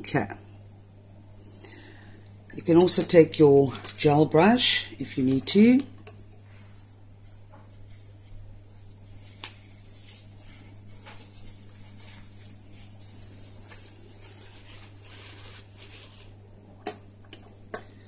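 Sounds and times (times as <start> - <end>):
electrical hum and hiss: 0.0 - 18.0.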